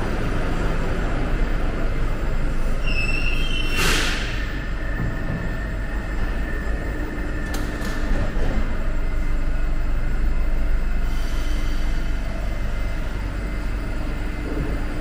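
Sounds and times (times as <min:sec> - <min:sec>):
echoing platform ambience: 0:00.0 - 0:15.0
train rumble and hum: 0:00.0 - 0:15.0.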